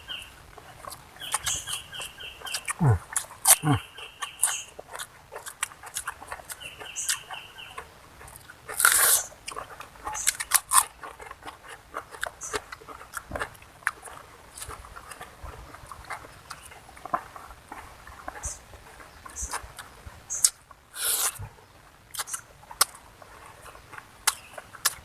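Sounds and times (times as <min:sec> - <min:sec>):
person chewing and crunching food: 0:00.1 - 0:25.0.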